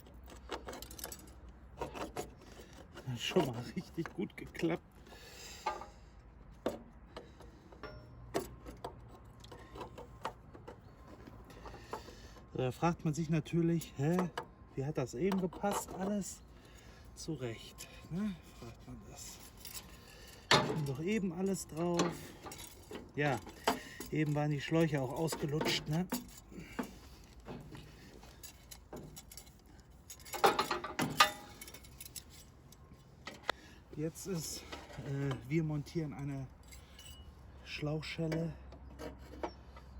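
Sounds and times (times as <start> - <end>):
tools and metal parts clicking: 0.0 - 4.9, 6.6 - 33.6, 34.4 - 39.9.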